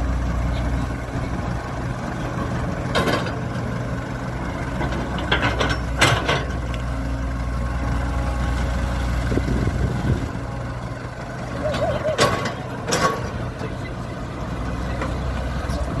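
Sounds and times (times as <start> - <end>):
earthmover diesel engine running: 0.0 - 16.0.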